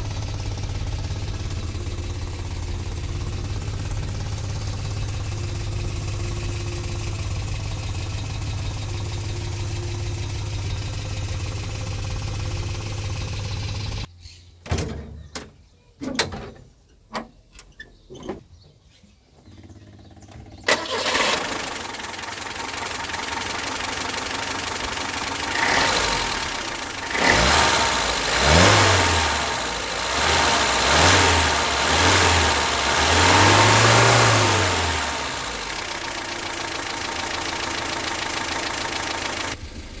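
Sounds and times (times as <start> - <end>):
car engine idling and revving: 0.0 - 14.1, 19.5 - 40.0.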